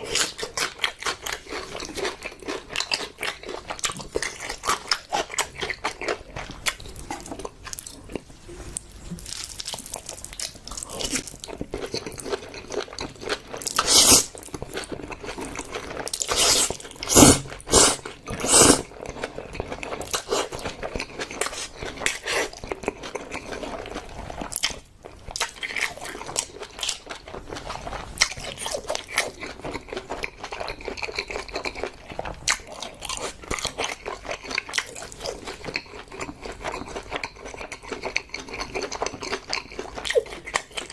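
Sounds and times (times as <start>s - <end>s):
person chewing: 0.0s - 8.3s, 9.1s - 40.9s.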